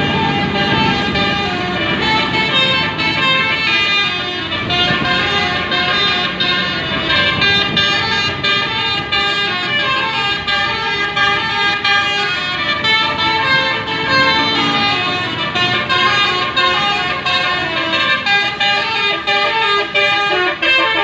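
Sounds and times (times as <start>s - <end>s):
musical air horn playing a tune: 0.0s - 21.0s.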